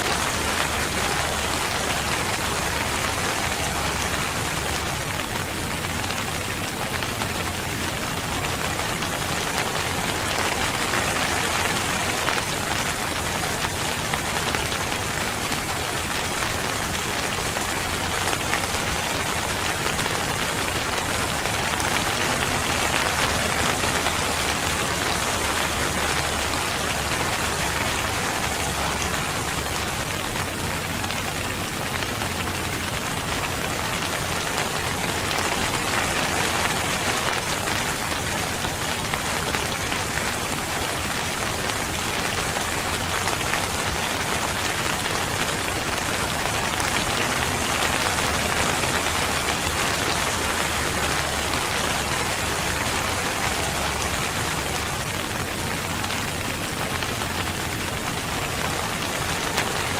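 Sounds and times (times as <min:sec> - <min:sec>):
rain pattering on surface: 0:00.0 - 0:59.9.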